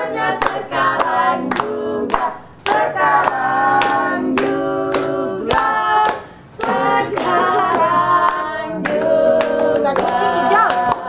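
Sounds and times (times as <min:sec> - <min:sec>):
group singing: 0:00.0 - 0:11.0
hand clapping: 0:00.1 - 0:11.0.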